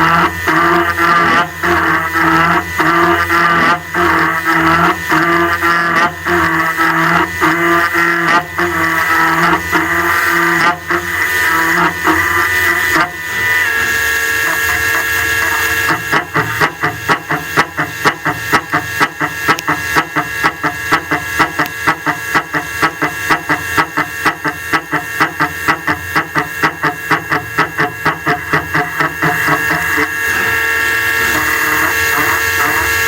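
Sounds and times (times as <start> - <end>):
milling machine cutter whine: 0.0 - 33.0.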